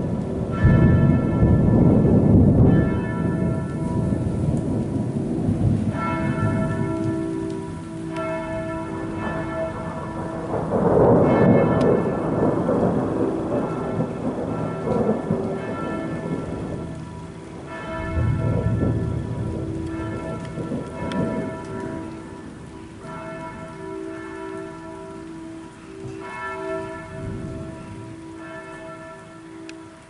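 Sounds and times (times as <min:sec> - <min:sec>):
church bells tolling: 0:00.0 - 0:30.0
steady rain on a garden: 0:00.0 - 0:30.0
thunder rumbling: 0:00.0 - 0:30.0.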